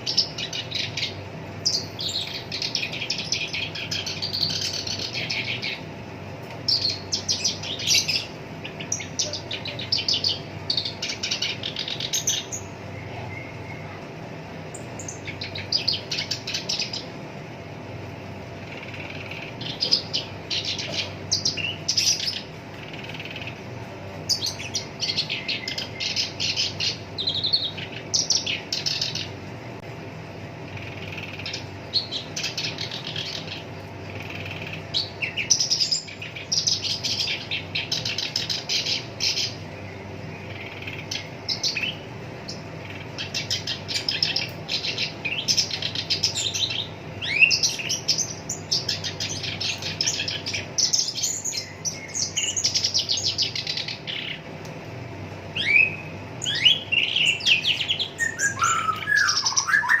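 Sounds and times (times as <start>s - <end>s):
faint steady hum: 0.0s - 60.0s
warbler singing rattling phrases: 0.0s - 60.0s.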